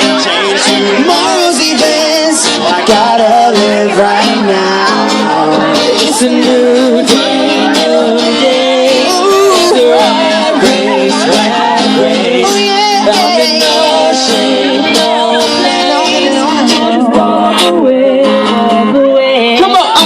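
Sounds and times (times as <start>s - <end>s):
instrumental backing: 0.0s - 20.0s
vocal group singing pop song: 0.0s - 20.0s.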